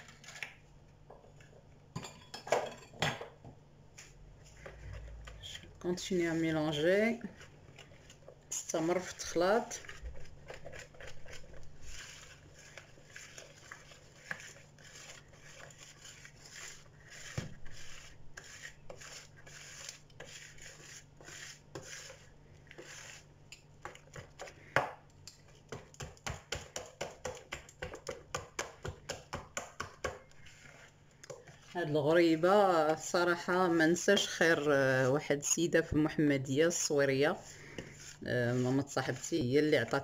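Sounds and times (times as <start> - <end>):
whisk beating batter in bowl: 4.4 - 40.0.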